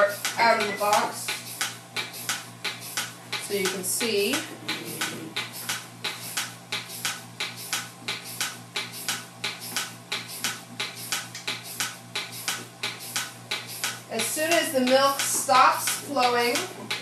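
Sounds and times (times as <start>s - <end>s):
milking machine pulsator clicks: 0.0s - 17.0s
vacuum pump hum: 0.0s - 17.0s.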